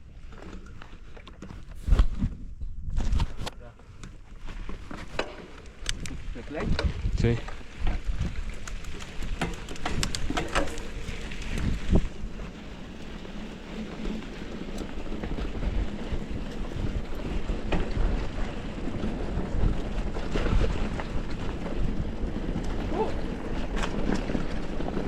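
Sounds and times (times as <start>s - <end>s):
bike rolling on dirt trail: 0.0s - 25.0s
wind buffeting microphone: 4.4s - 25.0s.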